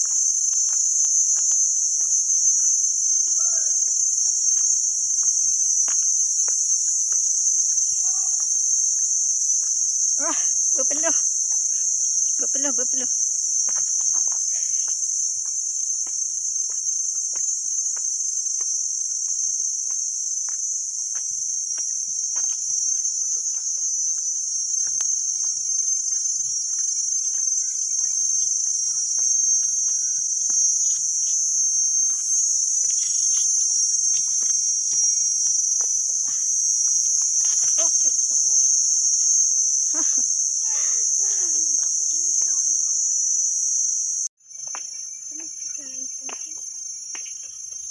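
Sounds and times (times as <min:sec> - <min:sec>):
insect chorus drone: 0:00.0 - 0:47.9.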